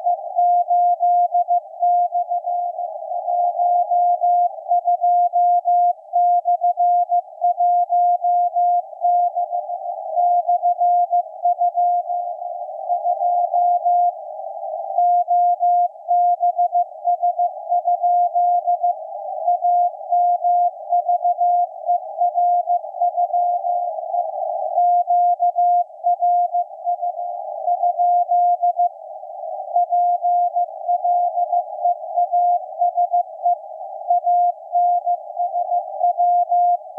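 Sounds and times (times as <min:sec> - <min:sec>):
receiver hiss: 0:00.0 - 0:36.9.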